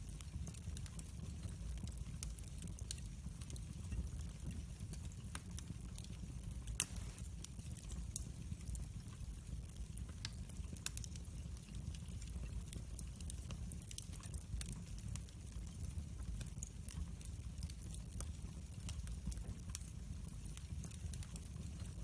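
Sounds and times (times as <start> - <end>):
low rumble of flame: 0.0 - 22.0
wood fire crackling and popping: 0.0 - 22.0.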